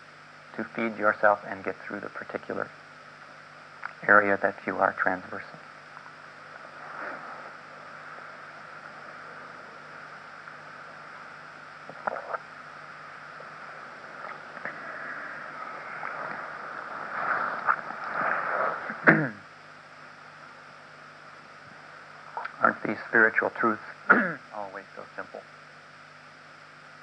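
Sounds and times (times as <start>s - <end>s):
background hiss: 0.0s - 27.0s
low hum: 0.0s - 27.0s.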